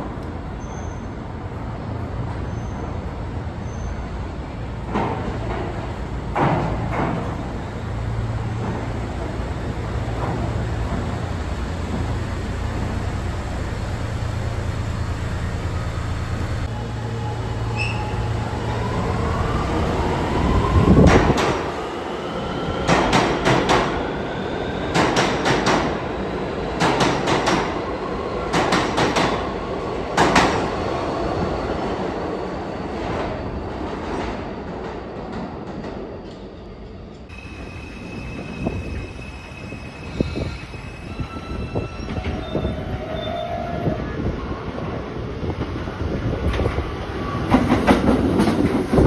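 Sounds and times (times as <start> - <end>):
subway train rumble: 0.0 - 49.0.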